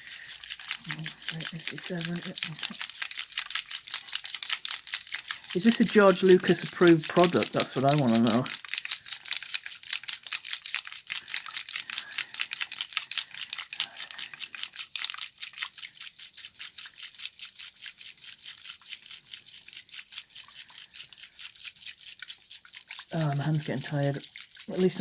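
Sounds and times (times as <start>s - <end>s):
toy shaker ball rattling: 0.0s - 25.0s.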